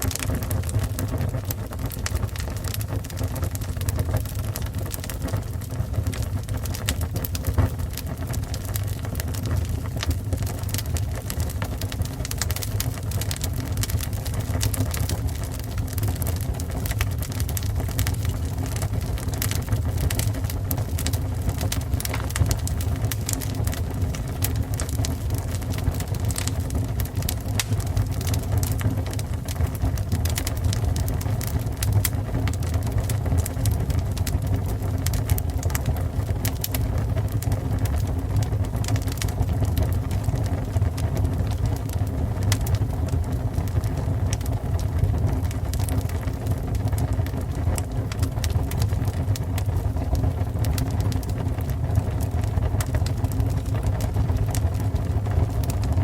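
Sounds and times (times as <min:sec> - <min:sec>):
fire roaring and crackling: 0:00.0 - 0:56.0.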